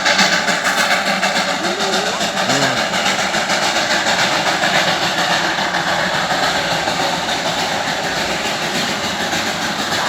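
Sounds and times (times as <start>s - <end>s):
toy train running: 0.0s - 10.0s.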